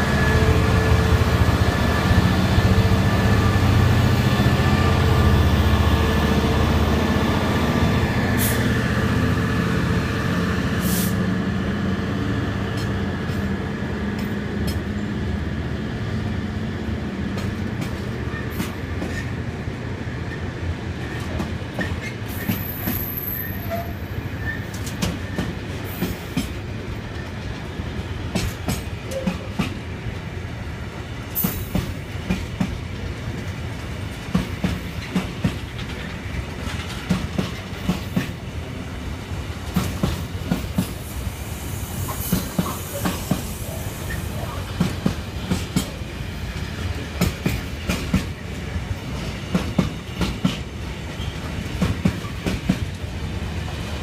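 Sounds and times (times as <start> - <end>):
diesel locomotive engine hum: 0.0 - 54.0.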